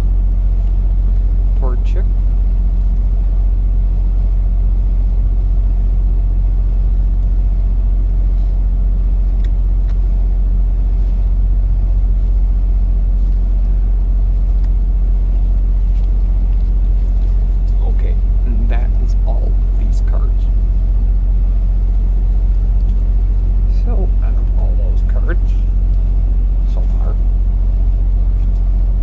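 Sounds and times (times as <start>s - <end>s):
constant hum: 0.0s - 29.0s
steady low rumble: 0.0s - 29.0s.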